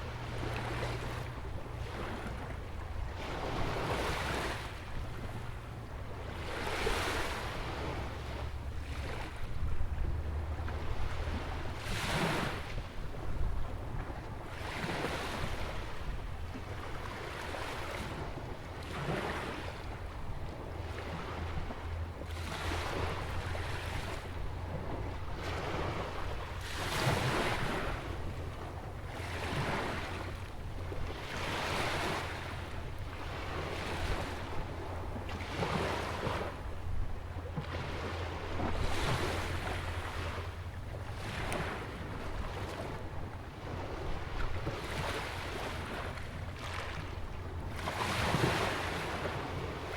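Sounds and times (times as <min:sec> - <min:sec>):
small waves breaking: 0:00.0 - 0:49.9
wind rumble on microphone: 0:00.0 - 0:49.9.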